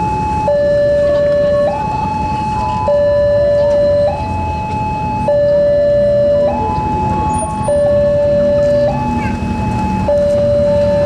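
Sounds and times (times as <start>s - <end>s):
level crossing alarm two tones: 0.0s - 11.0s.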